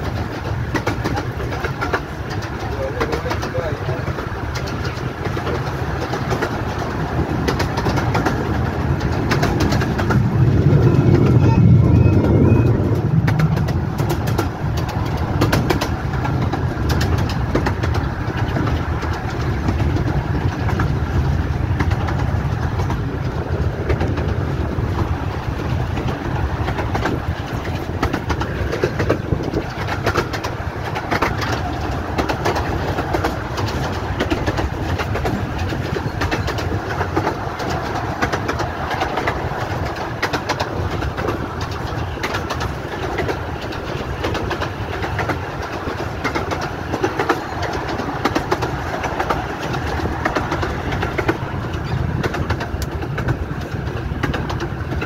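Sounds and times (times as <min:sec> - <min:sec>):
miniature train rumbling: 0:00.0 - 0:55.0
wheels and carriages clicking and rattling: 0:00.0 - 0:55.0.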